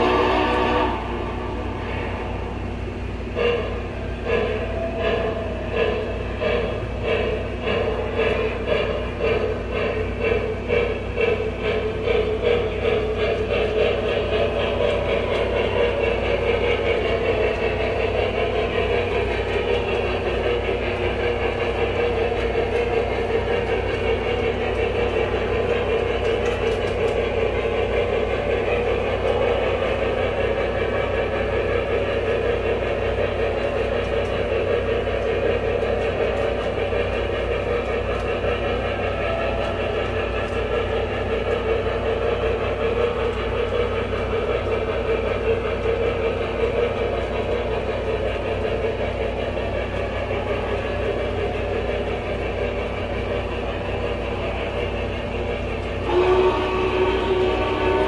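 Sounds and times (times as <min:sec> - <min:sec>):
model locomotive running rumble: 0:00.0 - 0:58.0.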